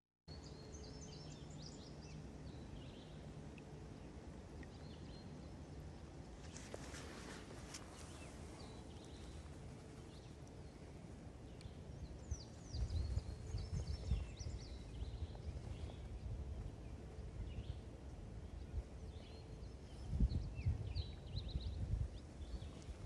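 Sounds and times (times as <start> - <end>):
small birds chirping: 0.3 - 23.0
irregular low rumble: 1.4 - 23.0.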